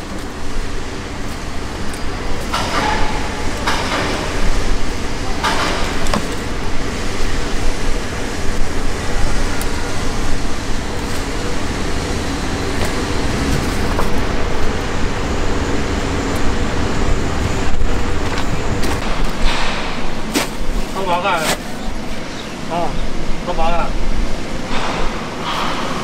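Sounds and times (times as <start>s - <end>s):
boat engine rumbling: 0.0s - 26.0s.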